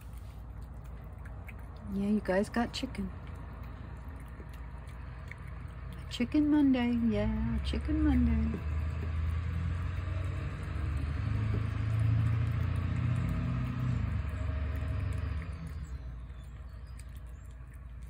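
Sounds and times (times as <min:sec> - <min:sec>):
vehicle passing by: 0:00.0 - 0:18.0.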